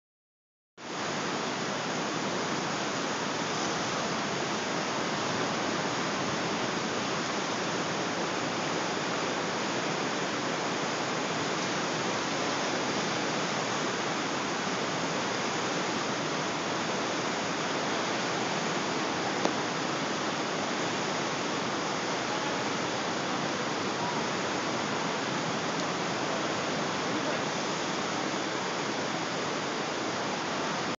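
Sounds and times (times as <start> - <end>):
rushing floodwater: 0.8 - 30.9.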